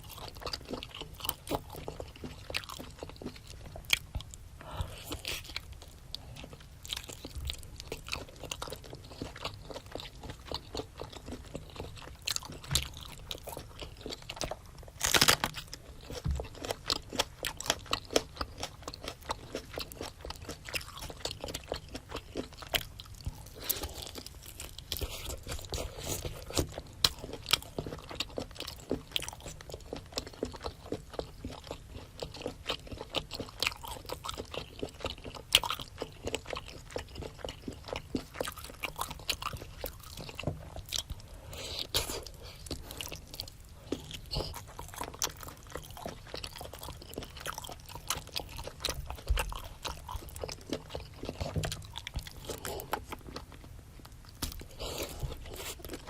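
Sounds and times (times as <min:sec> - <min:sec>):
close chewing of food: 0:00.0 - 0:56.0.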